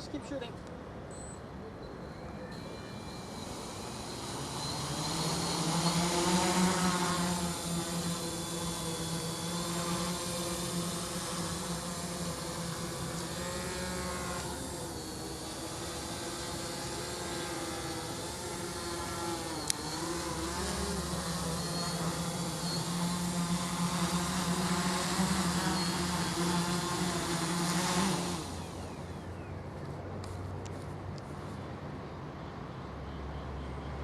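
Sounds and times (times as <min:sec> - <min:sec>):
drone propellers humming: 0:01.4 - 0:31.5.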